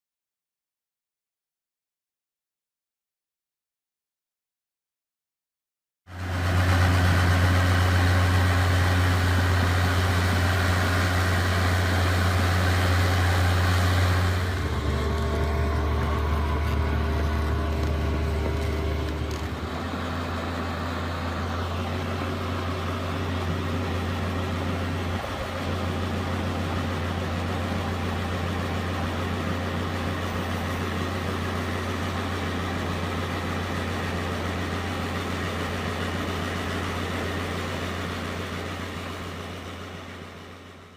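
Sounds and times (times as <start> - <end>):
excavator diesel engine running: 6.1 - 40.9.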